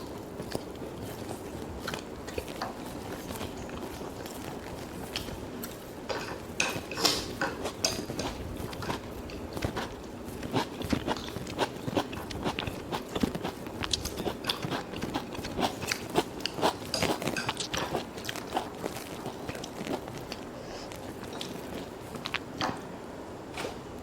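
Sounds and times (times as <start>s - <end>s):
crunchy chewing: 0.0s - 22.9s.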